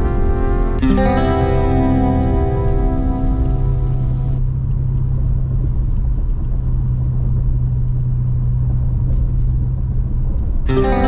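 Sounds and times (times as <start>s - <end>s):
car road and engine rumble: 0.0s - 11.0s
constant low hum: 0.0s - 11.0s.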